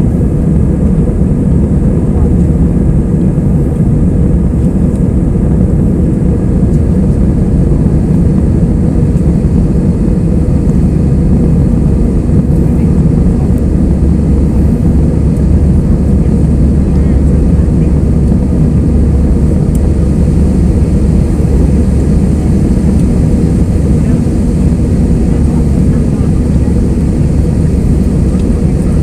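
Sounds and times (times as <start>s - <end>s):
jet engines and rushing air: 0.0s - 29.0s.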